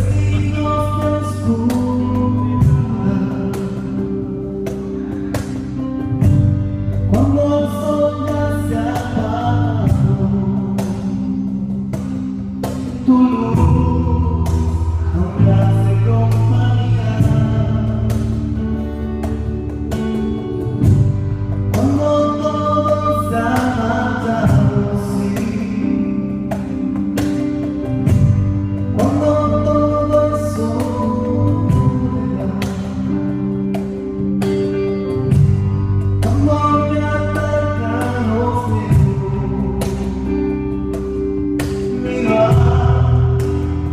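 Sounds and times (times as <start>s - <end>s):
bass guitar: 0.0s - 43.9s
person singing lead vocal: 0.0s - 43.9s.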